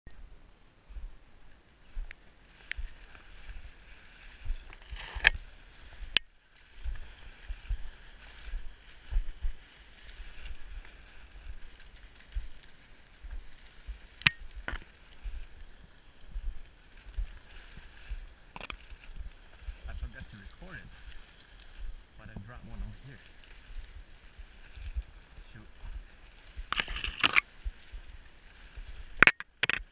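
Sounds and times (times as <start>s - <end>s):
dry reeds rustling and snapping: 1.4s - 29.9s.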